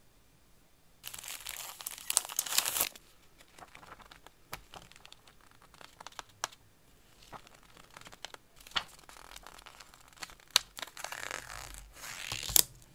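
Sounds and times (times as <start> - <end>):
paper sheets flipped by hand: 1.0 - 12.8
paper rustling: 1.0 - 12.9.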